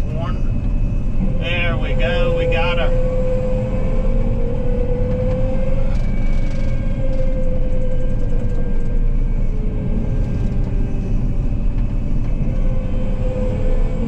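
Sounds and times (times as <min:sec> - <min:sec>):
combine harvester rumble and whine: 0:00.0 - 0:14.0.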